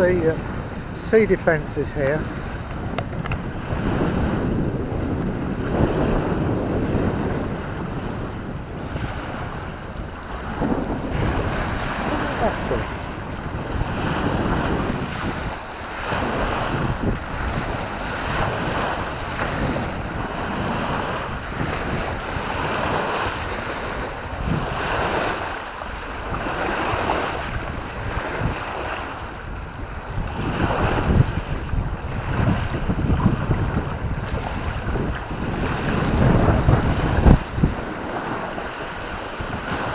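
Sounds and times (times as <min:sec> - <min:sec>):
waves splashing against stone wall: 0:00.0 - 0:39.9
waves washing onto pebble shore: 0:00.0 - 0:39.9
wind buffeting microphone: 0:00.0 - 0:39.9.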